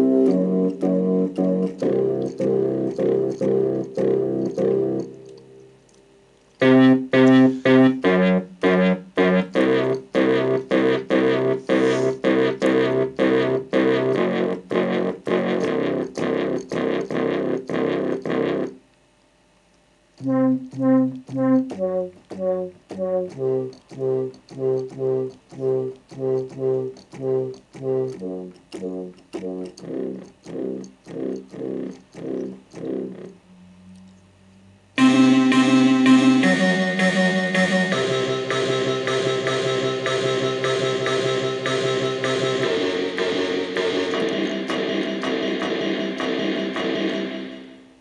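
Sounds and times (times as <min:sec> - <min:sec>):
synth bass riff: 0:00.0 - 0:05.7, 0:06.6 - 0:18.8, 0:20.2 - 0:48.0.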